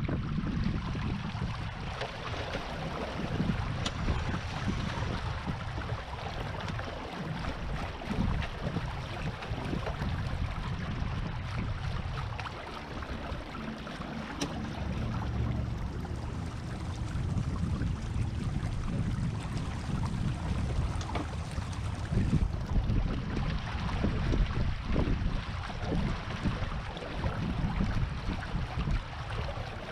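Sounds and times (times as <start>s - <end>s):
wind buffeting microphone: 0.0s - 29.9s
water washing: 1.4s - 28.2s.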